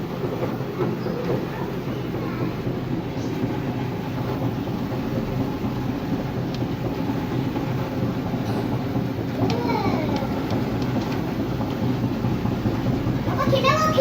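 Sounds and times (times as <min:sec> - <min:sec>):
treadmill motor and belt rumbling: 0:00.0 - 0:14.0.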